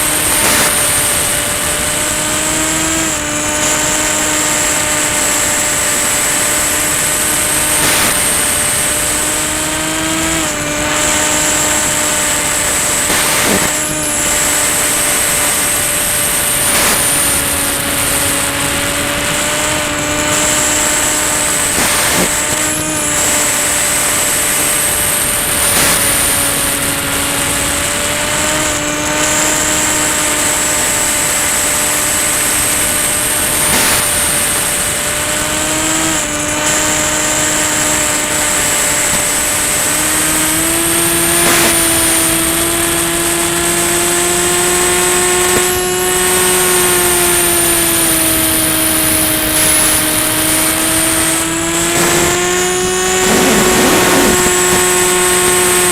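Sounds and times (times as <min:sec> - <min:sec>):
model plane motor droning: 0:00.0 - 0:55.9.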